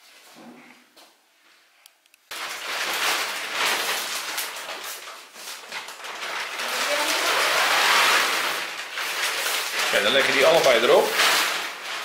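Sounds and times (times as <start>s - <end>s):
mattress rustling and crackling: 2.3s - 12.0s.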